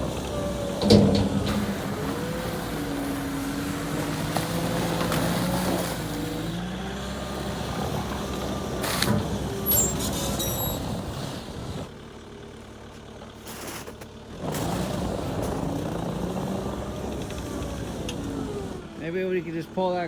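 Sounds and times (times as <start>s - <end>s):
loader engine under changing load: 0.0s - 20.0s.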